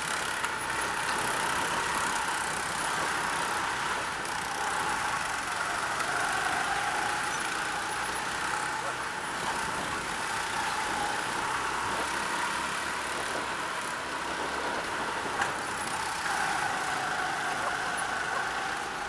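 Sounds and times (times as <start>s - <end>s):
go-kart engine drone: 0.0s - 19.0s.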